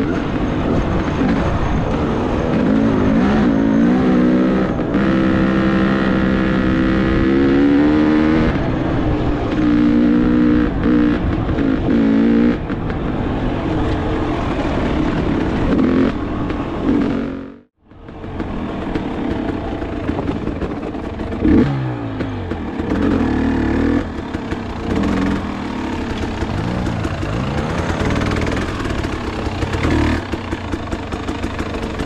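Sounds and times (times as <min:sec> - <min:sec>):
dirt bike engine revving: 0:00.0 - 0:13.0, 0:14.8 - 0:32.0.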